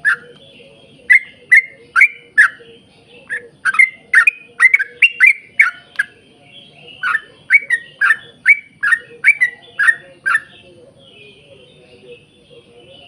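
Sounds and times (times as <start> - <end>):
bird sharp chirps: 0.0 - 13.0.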